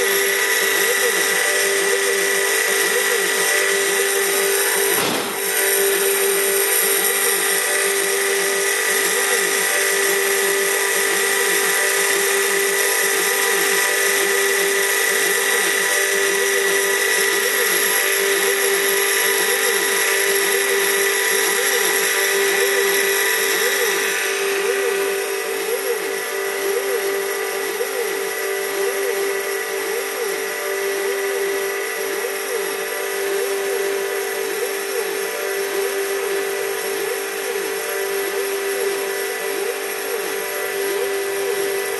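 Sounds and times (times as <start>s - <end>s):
milling spindle whining: 0.0s - 41.9s.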